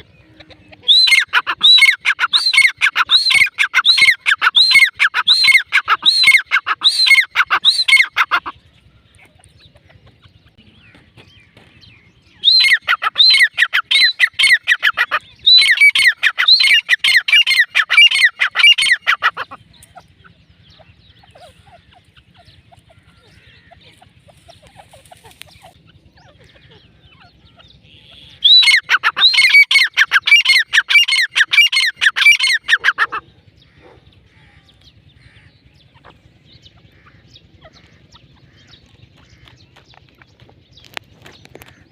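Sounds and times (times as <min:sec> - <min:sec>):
francolin calling: 0:00.0 - 0:41.9.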